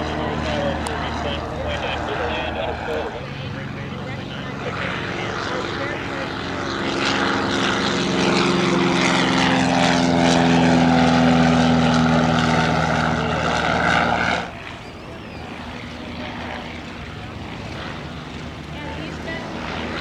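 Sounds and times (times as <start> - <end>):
light plane engine drone: 0.0 - 20.0.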